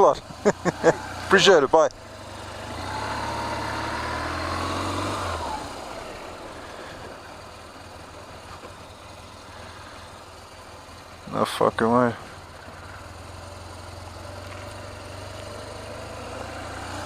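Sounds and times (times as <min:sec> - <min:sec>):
motorcycle engine pulling away: 0:00.0 - 0:17.0.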